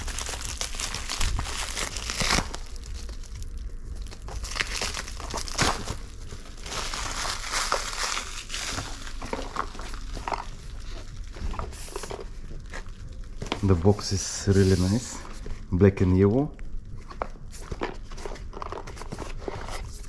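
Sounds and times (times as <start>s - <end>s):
plastic wrapping crinkling: 0.0s - 15.7s, 16.3s - 20.0s.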